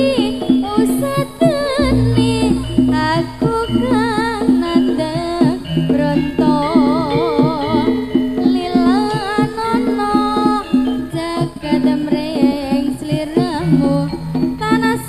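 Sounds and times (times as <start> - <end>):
drum strokes: 0.0 - 15.0
held gong-like tones: 0.0 - 15.0
ornamented melody line: 0.0 - 15.0.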